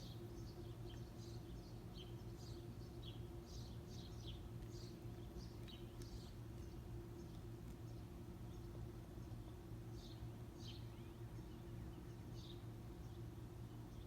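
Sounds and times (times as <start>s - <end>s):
songbirds chirping: 0.0s - 14.0s
steady low hum: 0.0s - 14.0s.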